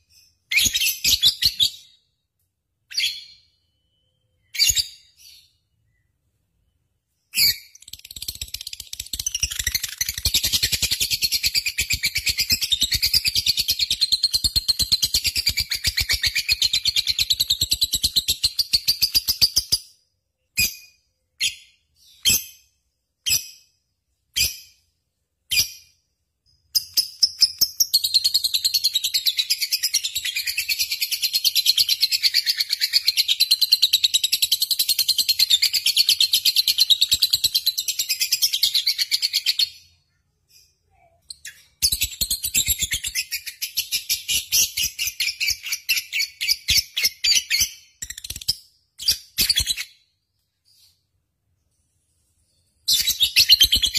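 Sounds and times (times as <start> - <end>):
bird chirps: 0.0 - 53.9.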